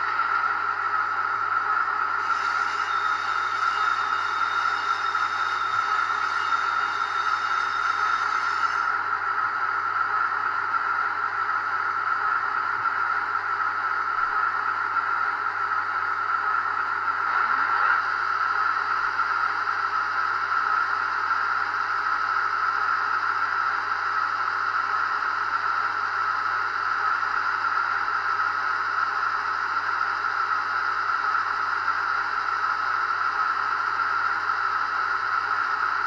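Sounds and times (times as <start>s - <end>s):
hissy diesel engine sound from speaker: 0.0s - 36.0s.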